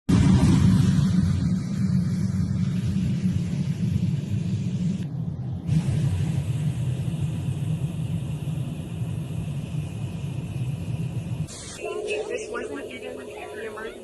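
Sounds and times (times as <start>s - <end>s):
airliner cabin engine rumble: 0.1s - 14.0s.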